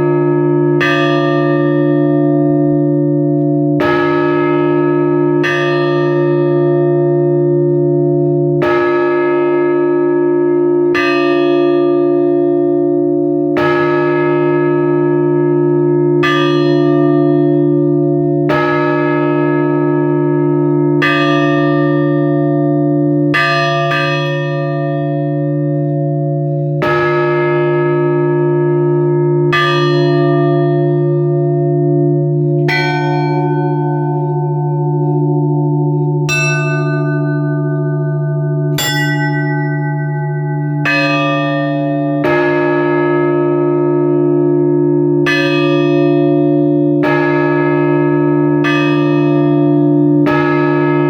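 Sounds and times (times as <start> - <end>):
church bell tolling: 0.0 - 51.0
deep bell hum: 0.0 - 51.0.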